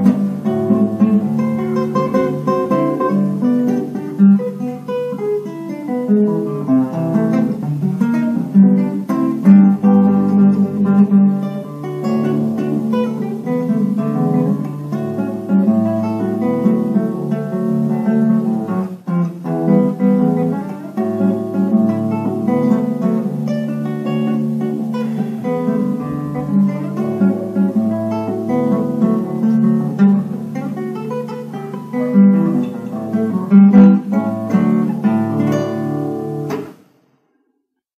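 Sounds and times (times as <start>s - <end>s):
solo classical guitar: 0.0s - 37.9s.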